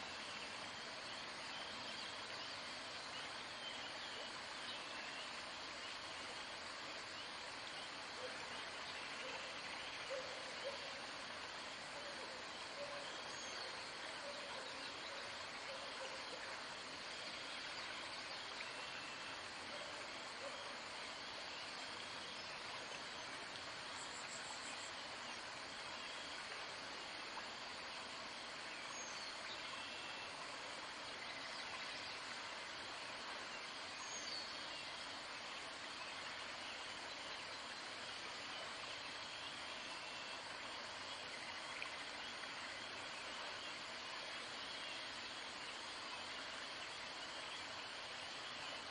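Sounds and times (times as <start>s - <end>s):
outdoor background hiss: 0.0s - 48.9s.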